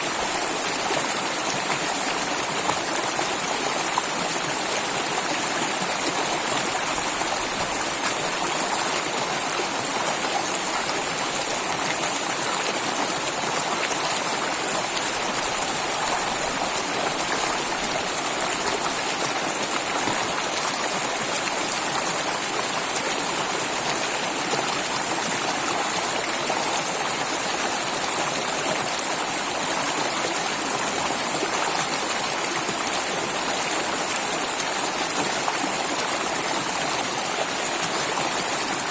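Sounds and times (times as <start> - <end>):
water flowing steadily: 0.0 - 38.9.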